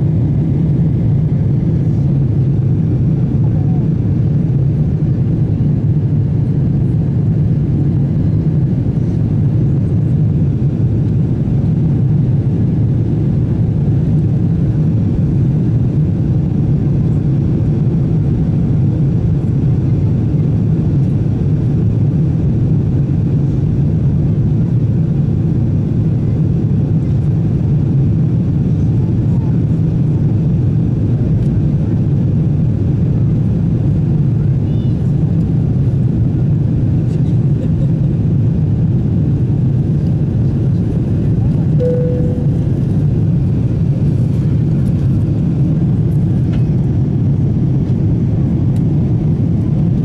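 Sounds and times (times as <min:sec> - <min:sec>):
jet cabin engine drone: 0:00.0 - 0:50.0.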